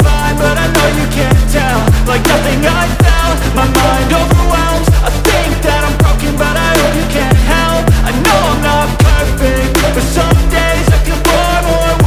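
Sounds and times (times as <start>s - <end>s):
deep kick drums: 0.0s - 12.0s
electronic hip-hop beat: 0.0s - 12.0s
synth melody: 0.0s - 12.0s.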